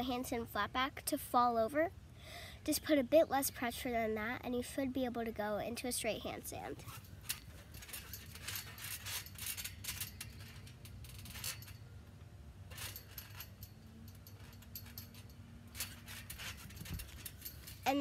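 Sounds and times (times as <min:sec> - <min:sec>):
trampoline springs clinking: 0:02.7 - 0:18.0.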